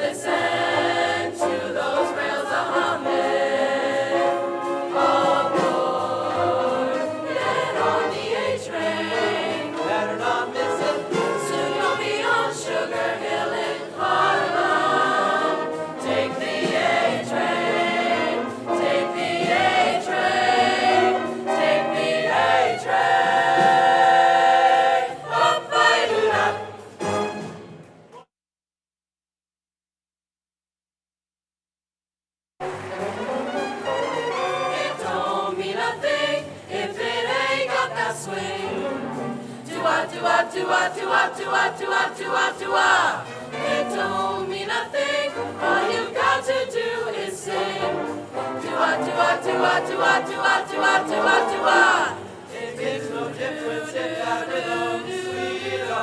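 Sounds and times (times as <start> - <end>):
choir singing in harmony: 0.0 - 27.8, 32.6 - 56.0.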